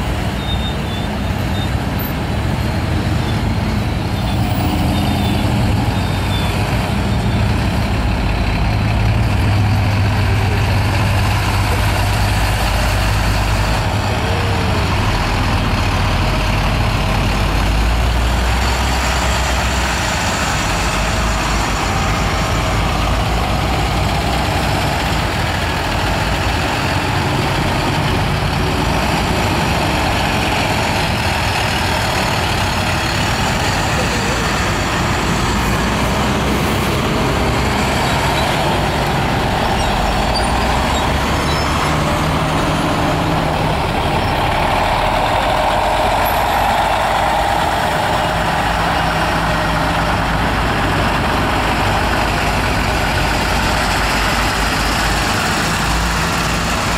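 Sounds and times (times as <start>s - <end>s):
truck engines rumbling: 0.0s - 56.9s.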